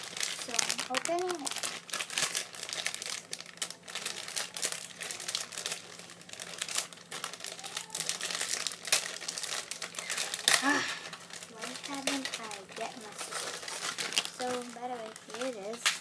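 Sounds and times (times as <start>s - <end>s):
candy packet tearing and crinkling: 0.0s - 16.0s.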